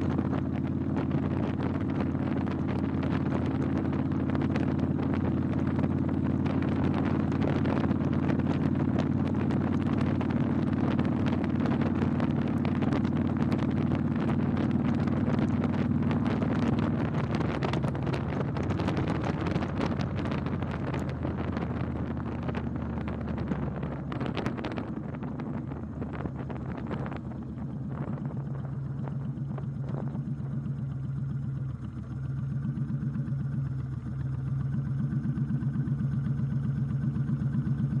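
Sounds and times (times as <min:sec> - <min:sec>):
wind rushing over microphone: 0:00.0 - 0:31.1
motorcycle engine running: 0:00.0 - 0:38.0.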